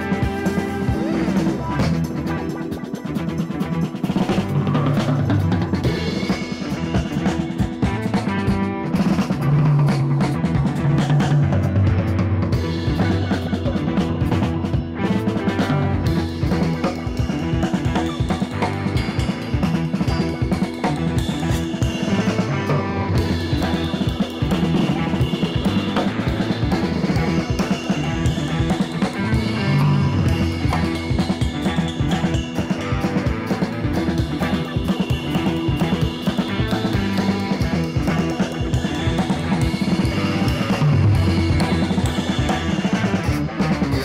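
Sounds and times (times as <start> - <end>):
rock music with drums and guitar: 0.0 - 44.0.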